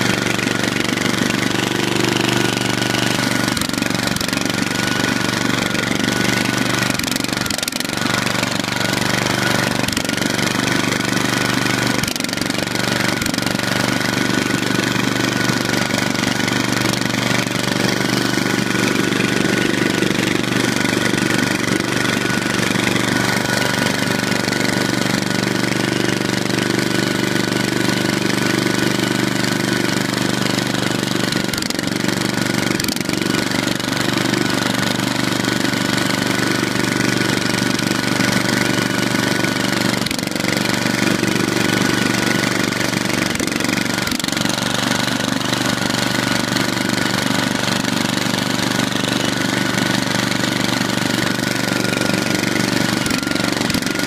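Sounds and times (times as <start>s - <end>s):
riding lawn tractor engine: 0.0s - 54.0s.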